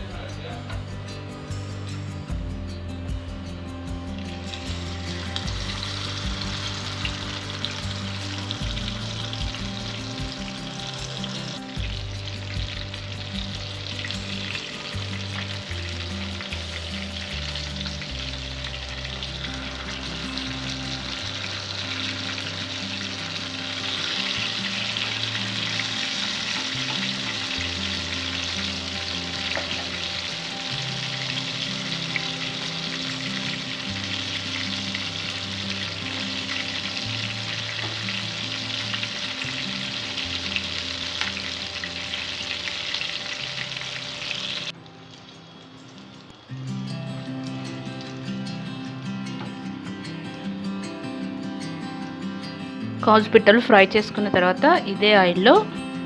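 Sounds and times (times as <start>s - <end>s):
food deep-frying in hot oil: 4.2s - 49.8s.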